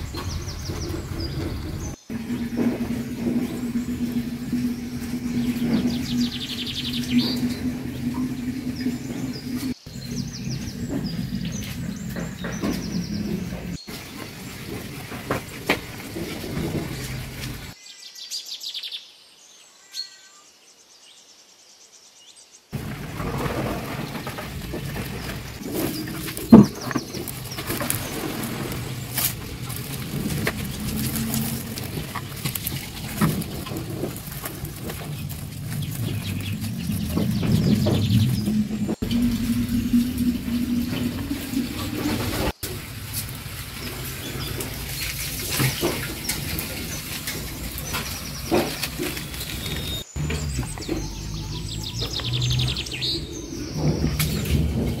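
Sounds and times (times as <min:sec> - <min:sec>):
leaves rustling and crinkling: 0:00.0 - 0:17.8, 0:22.8 - 0:55.0
steady low hum: 0:00.0 - 0:17.8, 0:22.8 - 0:52.0
small birds chirping: 0:00.0 - 0:21.3, 0:23.2 - 0:55.0.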